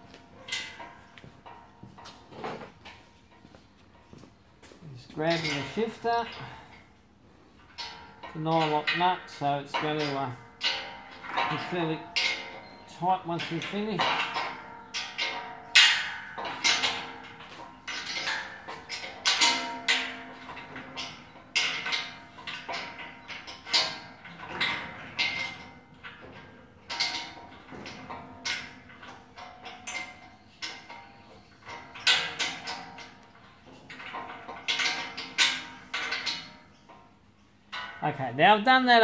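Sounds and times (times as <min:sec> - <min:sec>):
spanner clinking on metal: 0:05.2 - 0:06.9, 0:07.6 - 0:38.2.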